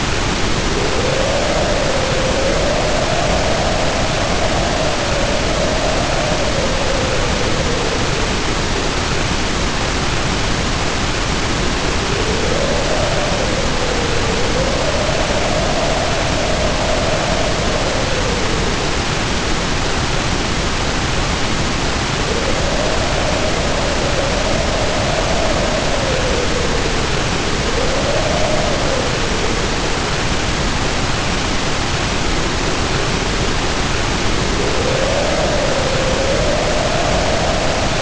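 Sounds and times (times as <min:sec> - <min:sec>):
heavy rain hissing: 0:00.0 - 0:38.0
storm wind howling: 0:00.0 - 0:38.0.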